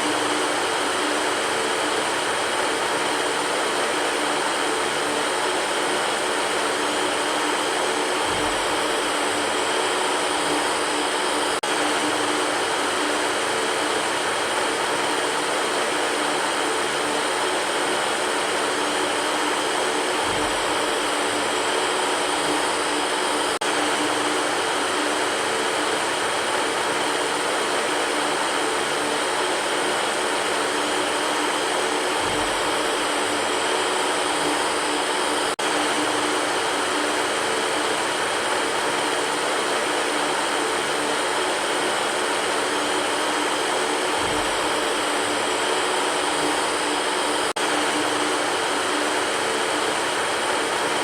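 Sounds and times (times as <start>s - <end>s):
electric fan whooshing: 0.0s - 51.0s
faint motor hum: 0.0s - 51.0s.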